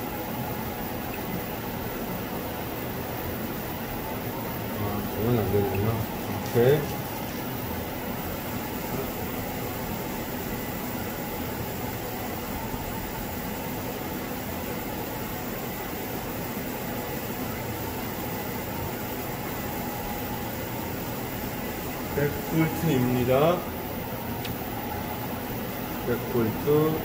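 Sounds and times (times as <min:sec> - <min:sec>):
cooling fans whirring: 0:00.0 - 0:27.0.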